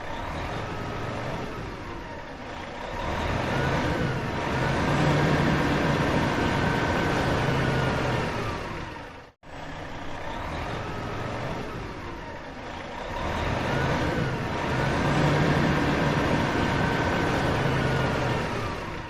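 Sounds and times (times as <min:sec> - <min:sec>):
van engine running: 0:00.0 - 0:19.0.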